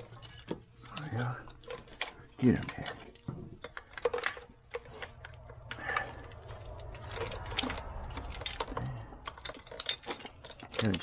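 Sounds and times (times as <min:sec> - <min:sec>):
engine parts clicking and rattling: 0:00.0 - 0:11.0
low steady hum: 0:00.0 - 0:11.0.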